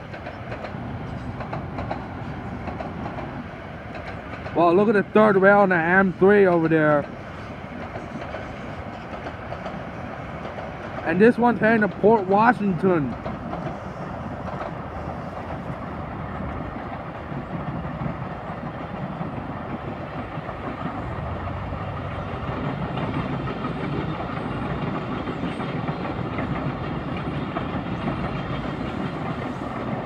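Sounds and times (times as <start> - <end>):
distant train wheels rumbling: 0.0 - 30.0.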